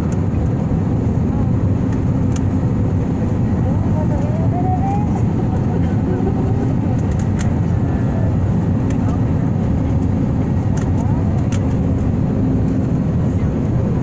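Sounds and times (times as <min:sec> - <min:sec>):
jet engines and wheels rumbling: 0:00.0 - 0:14.0.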